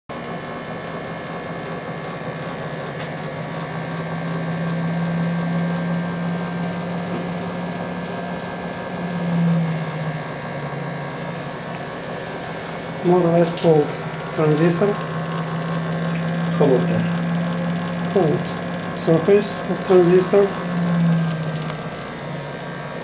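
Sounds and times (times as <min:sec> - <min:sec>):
generator humming drone: 0:00.1 - 0:23.0.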